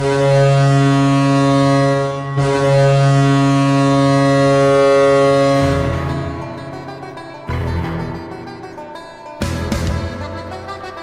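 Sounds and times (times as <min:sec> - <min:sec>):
goal horn blowing: 0:00.0 - 0:08.8.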